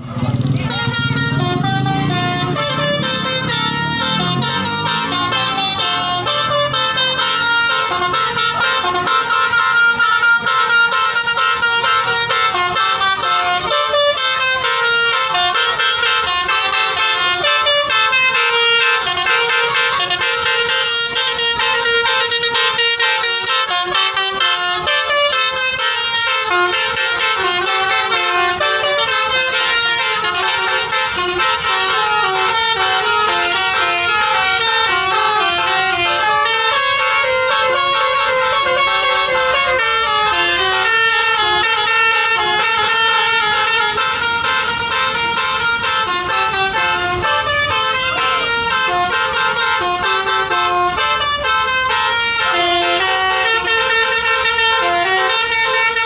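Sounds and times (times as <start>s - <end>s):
musical bus air horn: 0.3s - 56.0s.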